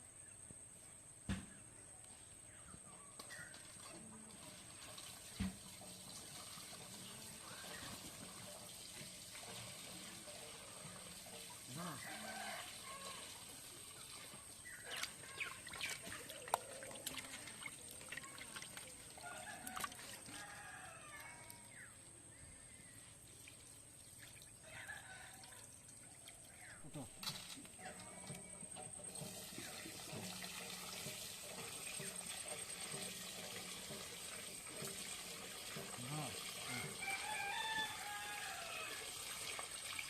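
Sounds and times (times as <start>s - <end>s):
fish washed by hand: 3.2s - 21.9s, 23.0s - 40.0s
water trickling and pouring: 3.2s - 22.0s, 23.0s - 40.0s.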